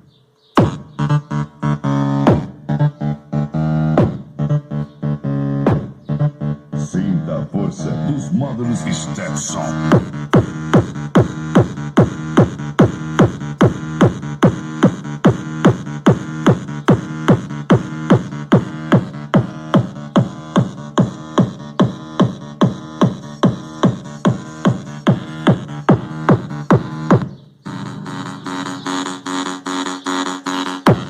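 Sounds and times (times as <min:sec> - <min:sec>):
electronic music with pounding beat: 0:00.0 - 0:31.0
low bass line: 0:00.6 - 0:31.0.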